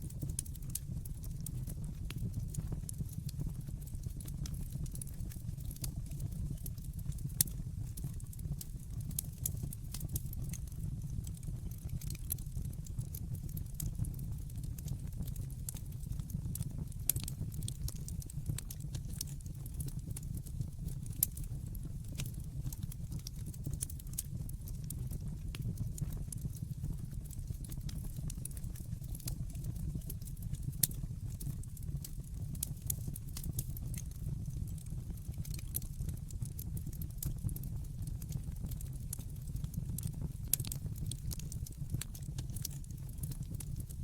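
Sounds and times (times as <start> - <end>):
fire crackling and popping: 0.0 - 44.0
fire flames rumbling: 0.1 - 43.9.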